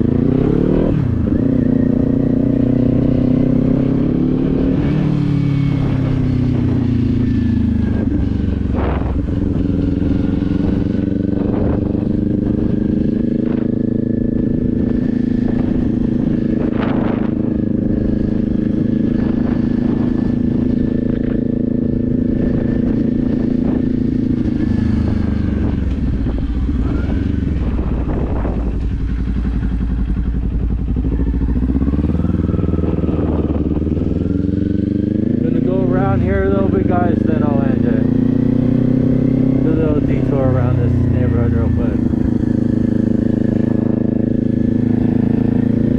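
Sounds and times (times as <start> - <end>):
motorcycle engine riding along: 0.0 - 45.9
wind rumbling on microphone: 0.0 - 45.9.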